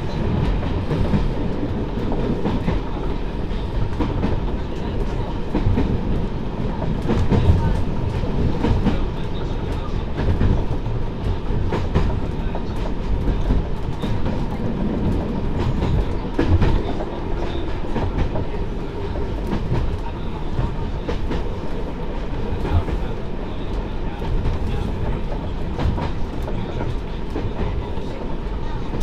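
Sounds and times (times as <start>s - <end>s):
diesel railcar engine rumble: 0.0s - 29.0s
wheels clacking on rails: 0.0s - 29.0s.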